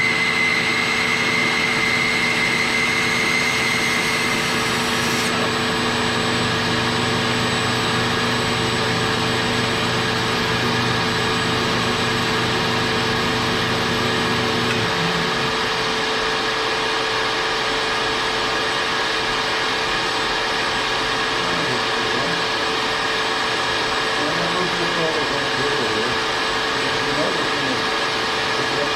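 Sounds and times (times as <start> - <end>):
low machine hum: 0.0 - 28.9
shop vacuum running: 0.0 - 28.9.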